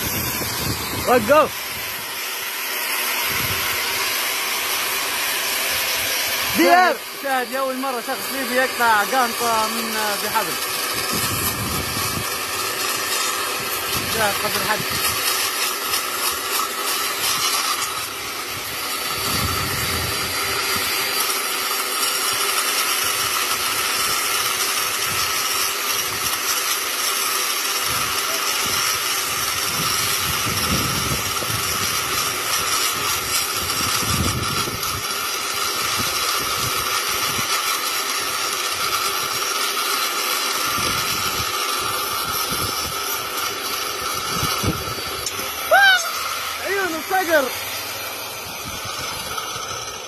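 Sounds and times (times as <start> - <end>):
angle grinder cutting steel: 0.0 - 50.0.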